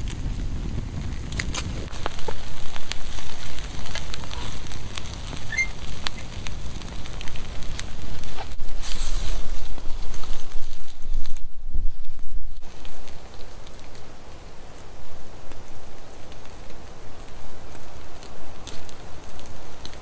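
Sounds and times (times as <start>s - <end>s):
campfire crackling and popping: 0.0s - 20.0s
low rush of flame: 0.0s - 20.0s.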